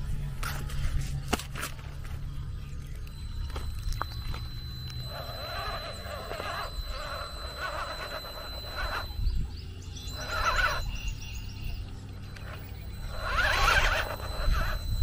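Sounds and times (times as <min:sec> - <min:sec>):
electric motor whining: 0:02.7 - 0:15.0.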